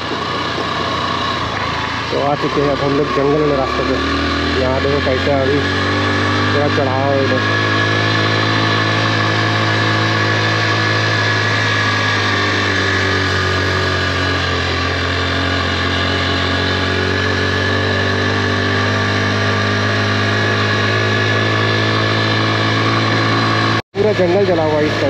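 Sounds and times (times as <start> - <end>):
motorbike engine running: 0.0 - 25.0.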